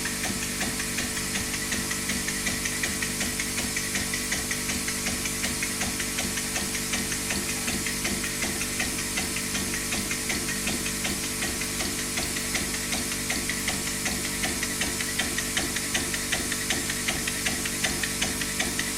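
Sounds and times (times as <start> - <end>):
mechanism clicking regularly: 0.0 - 18.9.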